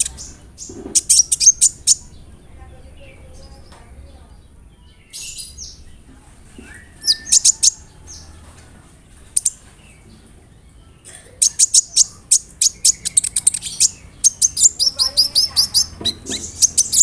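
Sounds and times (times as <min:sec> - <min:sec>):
sunbird high chirps: 0:00.0 - 0:06.0, 0:06.6 - 0:08.4, 0:09.1 - 0:17.0.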